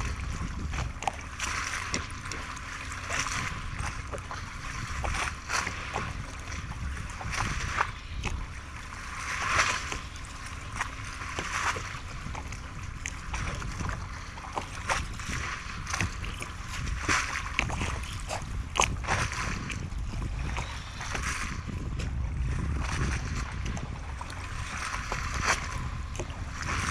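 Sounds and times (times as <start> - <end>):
low wind rumble: 0.0 - 26.9
water lapping and splashing: 0.0 - 26.9.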